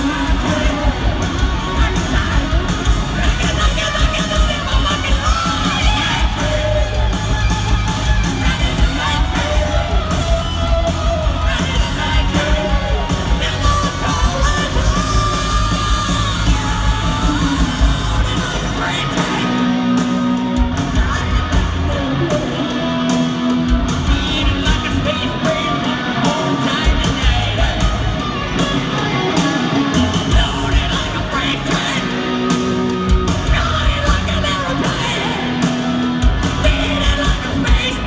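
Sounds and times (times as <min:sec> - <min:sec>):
shouted sung vocals: 0:00.0 - 0:23.4, 0:24.0 - 0:38.0
bass guitar: 0:00.0 - 0:38.0
distorted electric guitar: 0:00.0 - 0:38.0
drums: 0:00.0 - 0:38.0.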